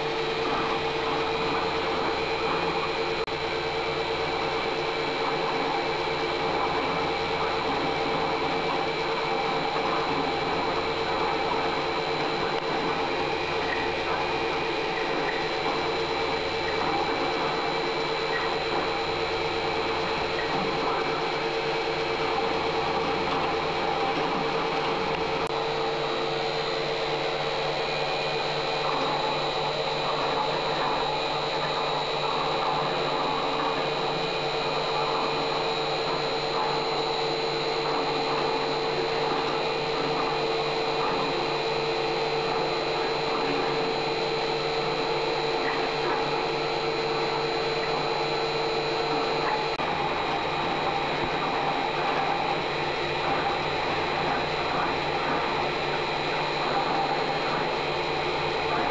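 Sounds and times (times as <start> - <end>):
constant hum: 0.0 - 58.9
milling machine motor whine: 0.0 - 58.9.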